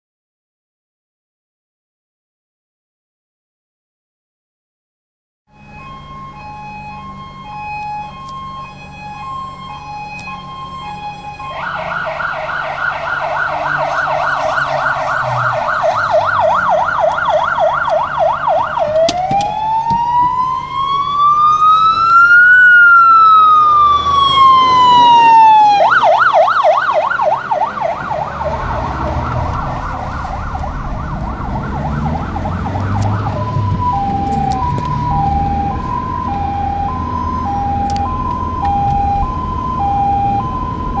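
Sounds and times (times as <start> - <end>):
diesel engine rumble: 5.5 - 41.0
fire engine siren: 5.5 - 41.0.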